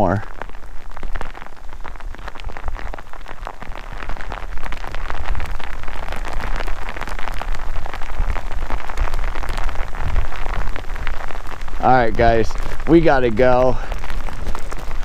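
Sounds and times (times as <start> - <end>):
heavy rain on water: 0.0 - 15.0.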